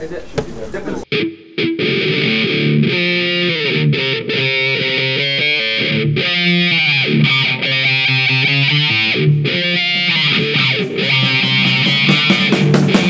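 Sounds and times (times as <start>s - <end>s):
rock music with guitar: 1.1s - 13.0s.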